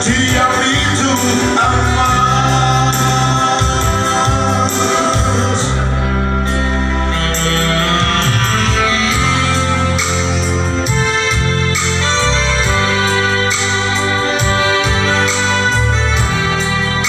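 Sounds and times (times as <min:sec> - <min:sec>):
electronic keyboard in pop song: 0:00.0 - 0:17.0.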